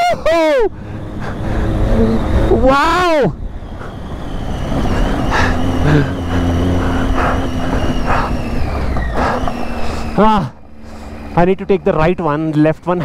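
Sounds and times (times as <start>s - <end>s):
motorcycle engine running: 0.4s - 13.0s
surges of rough noise: 0.4s - 13.0s
deep rumble: 0.6s - 12.8s.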